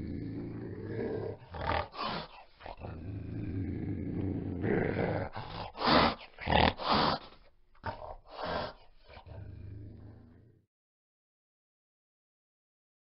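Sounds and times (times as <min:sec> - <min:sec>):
tiger growling: 0:00.0 - 0:10.6.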